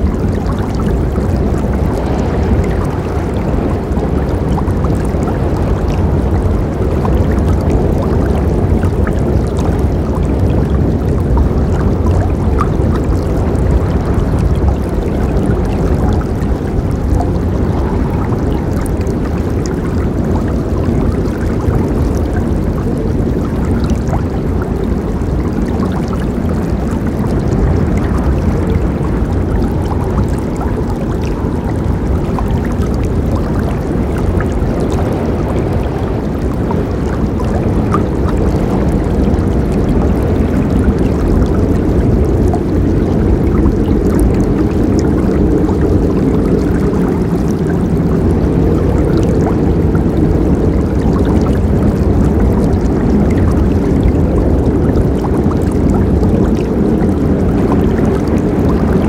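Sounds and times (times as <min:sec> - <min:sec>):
river water rushing: 0:00.0 - 0:48.4
water splashes and drips: 0:00.0 - 0:59.0.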